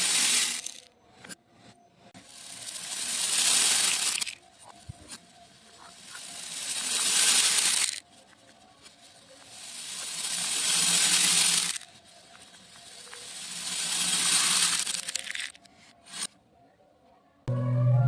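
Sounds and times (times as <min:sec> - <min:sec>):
beads pouring rattle: 0:00.0 - 0:00.9, 0:02.2 - 0:16.3.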